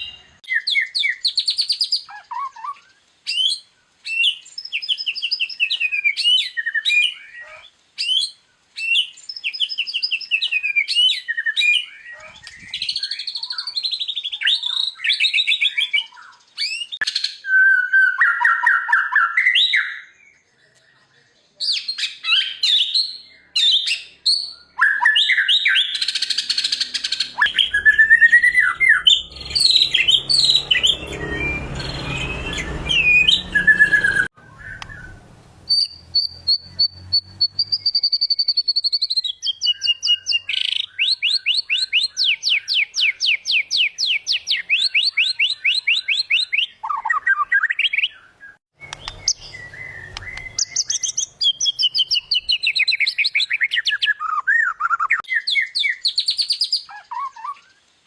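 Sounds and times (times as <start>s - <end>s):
bird singing whistled phrases: 0.0s - 21.0s, 21.6s - 57.8s.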